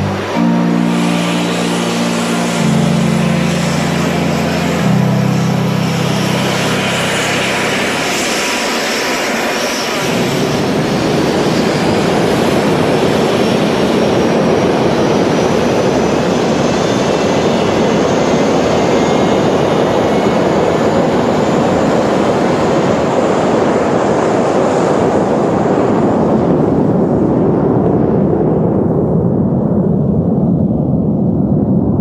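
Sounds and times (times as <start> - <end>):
high-pitched engine whine: 0.0 - 28.5
jet engines running: 0.0 - 32.0.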